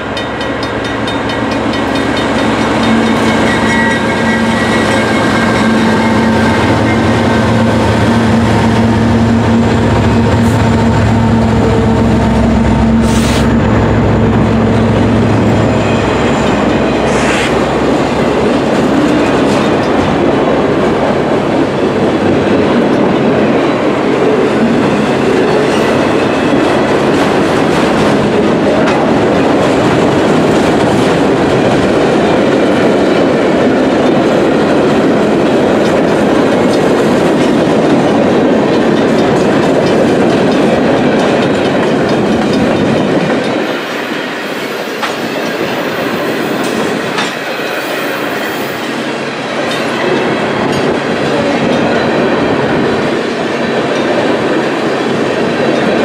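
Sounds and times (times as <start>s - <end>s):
diesel locomotive engine drone: 0.0s - 56.0s
train wheels clickety-clack on rails: 0.0s - 56.0s.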